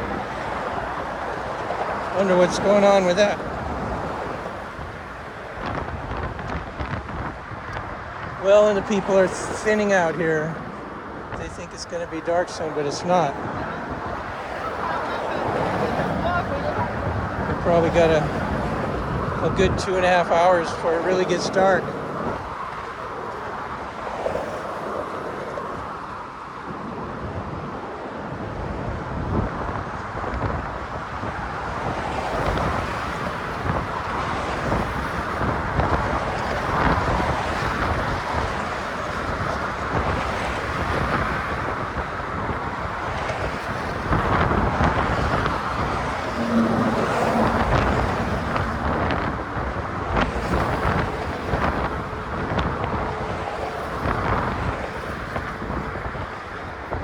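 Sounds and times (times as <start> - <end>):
motor traffic passing: 0.0 - 26.0, 29.4 - 57.0
wind buffeting microphone: 0.0 - 57.0.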